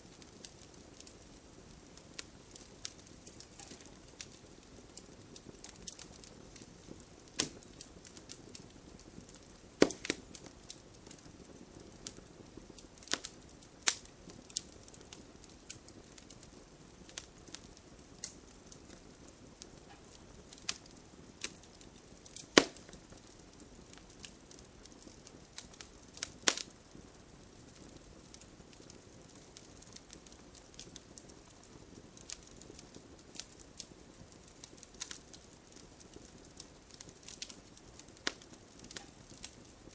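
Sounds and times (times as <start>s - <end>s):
faint low hiss: 0.0s - 39.9s
wood fire crackling and popping: 0.0s - 39.9s.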